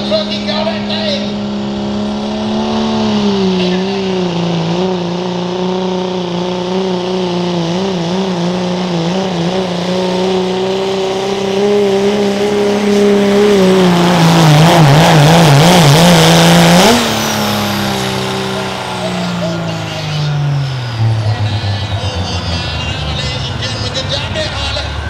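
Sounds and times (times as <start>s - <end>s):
truck engine at full throttle: 0.0s - 25.0s.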